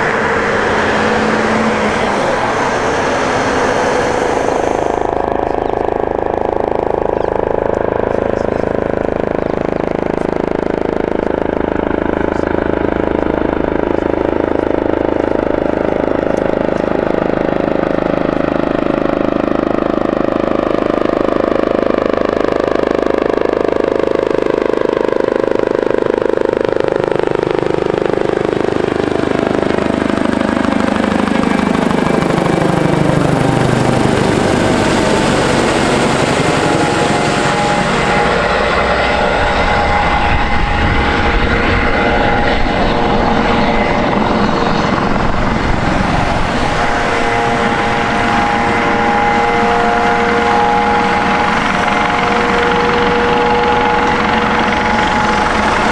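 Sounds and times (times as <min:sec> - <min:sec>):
helicopter rotor: 0:00.0 - 0:55.9
turbine whine: 0:00.0 - 0:55.9.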